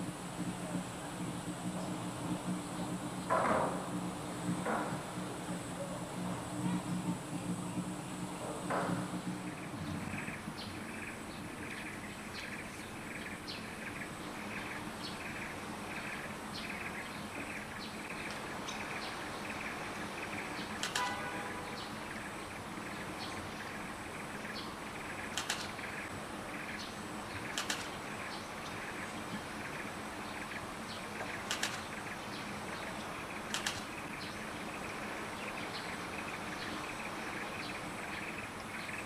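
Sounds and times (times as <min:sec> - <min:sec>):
insect hum: 0:00.0 - 0:39.0.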